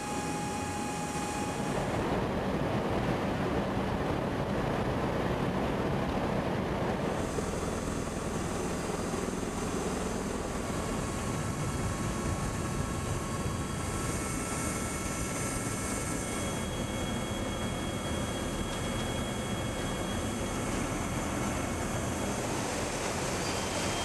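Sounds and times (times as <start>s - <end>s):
aircraft engine and rotor drone: 0.0s - 24.0s
rushing wind: 0.0s - 24.0s.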